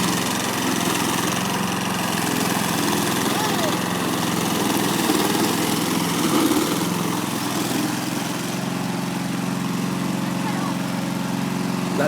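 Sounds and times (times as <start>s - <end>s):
lawn mower engine idling: 0.0s - 12.0s.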